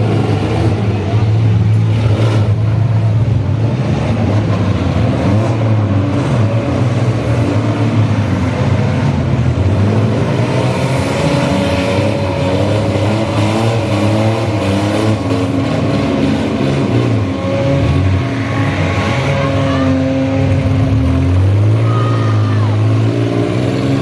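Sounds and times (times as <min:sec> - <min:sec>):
minivan engines revving: 0:00.0 - 0:24.0.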